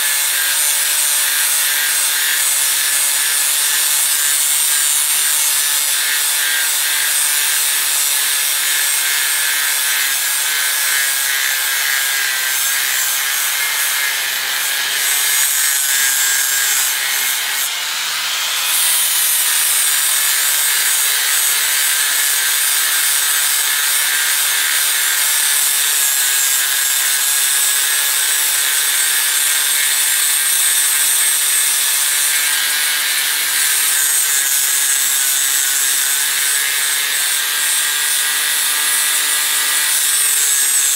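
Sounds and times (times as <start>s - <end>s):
angle grinder motor whine: 0.0s - 40.9s.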